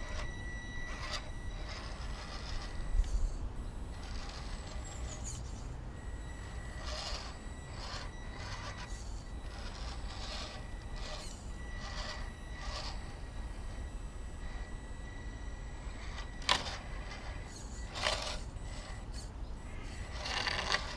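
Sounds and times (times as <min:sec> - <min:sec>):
rc car motor whirring: 0:00.0 - 0:20.9
thin steady whine: 0:00.0 - 0:20.9.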